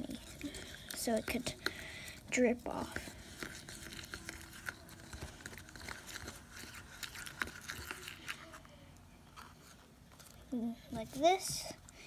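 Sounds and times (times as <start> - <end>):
stick stirring paint in plastic cup: 0.0 - 12.0.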